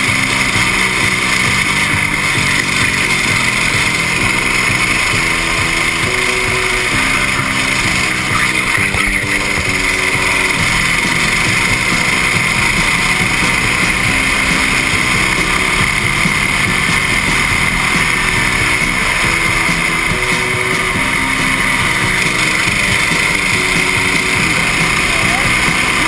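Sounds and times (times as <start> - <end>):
go-kart engine running: 0.0 - 26.0.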